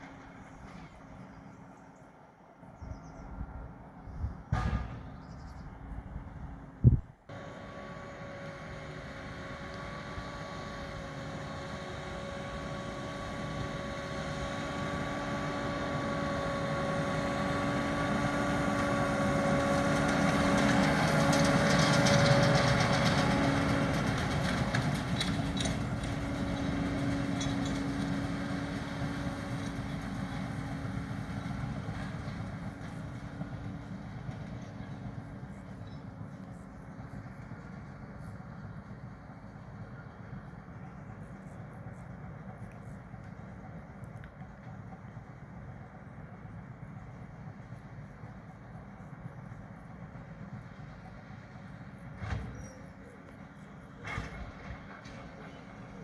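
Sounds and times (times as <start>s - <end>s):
tractor diesel engine running: 0.0s - 1.8s, 4.6s - 56.0s.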